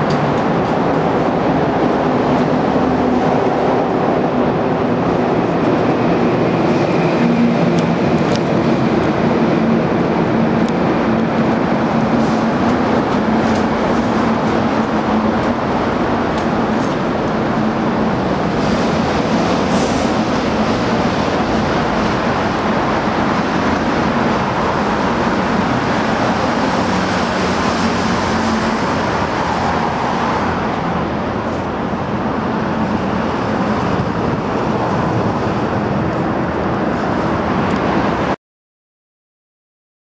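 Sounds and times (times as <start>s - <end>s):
expressway traffic rumble: 0.0s - 38.4s.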